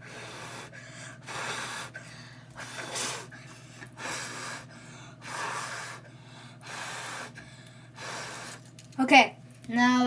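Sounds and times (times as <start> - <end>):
person blowing short puffs: 0.0 - 7.4, 8.0 - 8.7.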